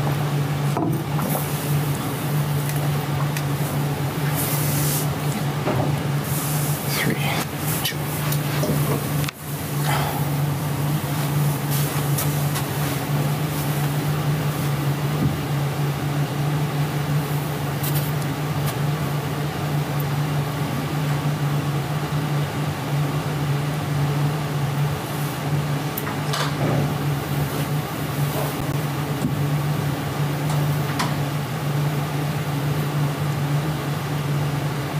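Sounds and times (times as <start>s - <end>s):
room noise hum and hiss: 0.0s - 34.9s.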